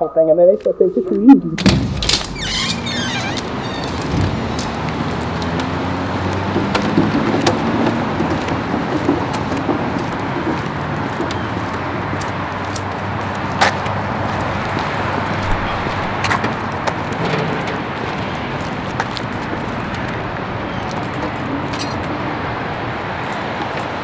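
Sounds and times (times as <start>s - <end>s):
distant traffic: 0.0s - 24.0s.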